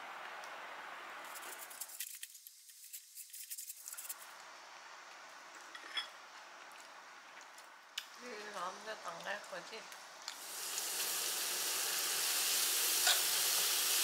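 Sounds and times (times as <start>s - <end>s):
low hiss: 0.0s - 14.0s.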